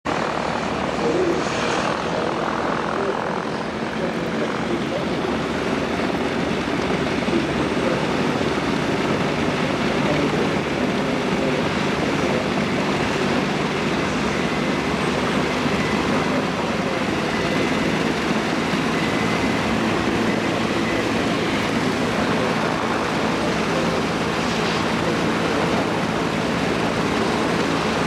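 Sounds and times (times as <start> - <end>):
piston aircraft engines running: 0.0 - 28.0.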